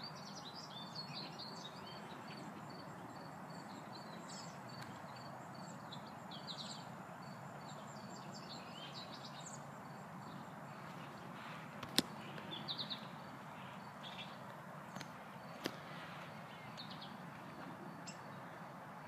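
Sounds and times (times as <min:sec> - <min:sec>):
small birds chirping: 0:00.0 - 0:18.8
faint outdoor background hum: 0:00.0 - 0:19.0.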